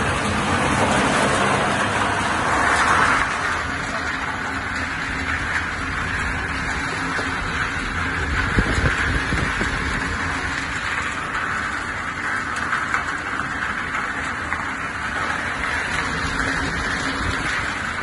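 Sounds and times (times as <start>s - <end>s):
machinery hum and rushing: 0.0s - 18.0s.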